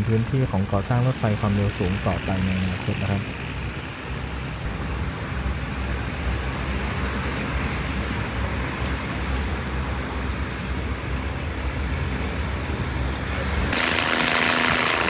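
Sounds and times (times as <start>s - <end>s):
diesel engine rumble: 0.0s - 15.0s
wheels hissing on rails: 0.0s - 15.0s.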